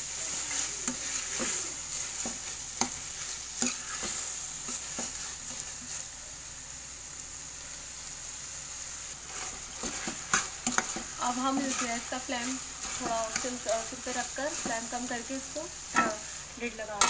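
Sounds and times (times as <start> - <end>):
onions and tomatoes sizzling: 0.0 - 17.0
metal spatula scraping a pan: 0.1 - 6.0, 9.2 - 17.0.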